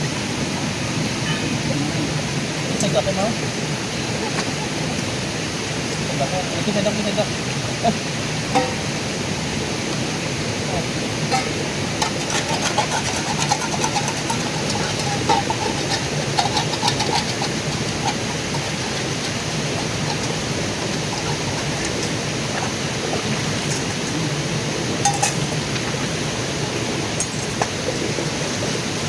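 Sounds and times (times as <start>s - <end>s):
river water flowing: 0.0s - 29.0s.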